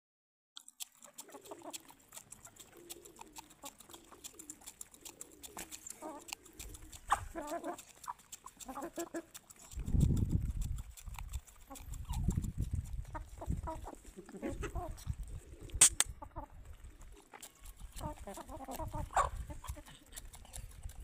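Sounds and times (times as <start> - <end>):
rooster pecking grain clicks: 0.6 - 21.0
rooster clucking: 1.0 - 20.8.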